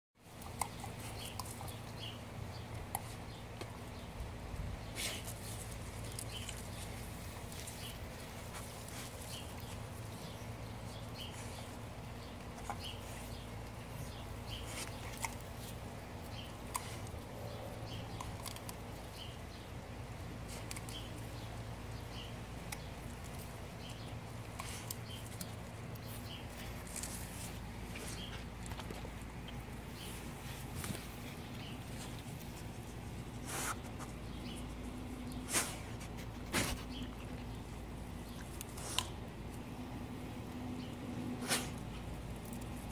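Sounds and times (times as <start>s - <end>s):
rustling of plant leaves: 0.2s - 42.9s
steady low hum: 0.2s - 42.9s.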